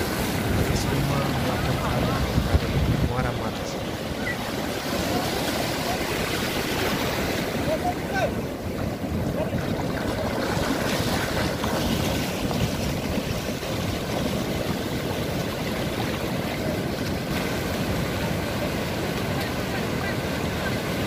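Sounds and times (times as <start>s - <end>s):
surf breaking in shallows: 0.0s - 21.0s
wind on microphone: 0.0s - 21.0s.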